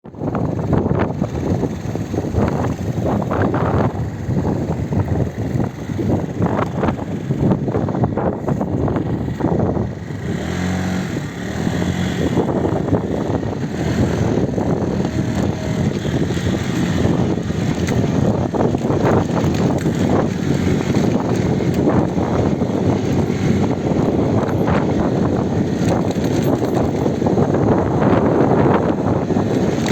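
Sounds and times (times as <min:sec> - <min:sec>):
small atv engine running: 0:00.1 - 0:29.9.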